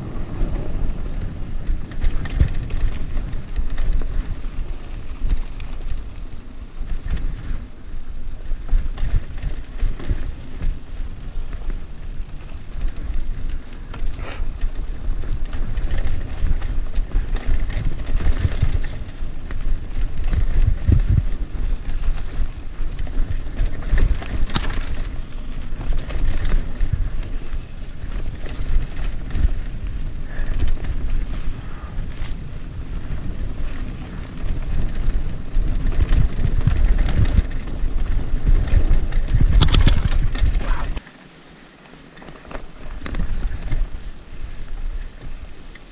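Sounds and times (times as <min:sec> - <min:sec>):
wind on microphone: 0:00.0 - 0:41.0, 0:42.5 - 0:45.9
bike clicking and rattling: 0:00.0 - 0:45.9
bike tyres rumbling on dirt: 0:00.0 - 0:45.9.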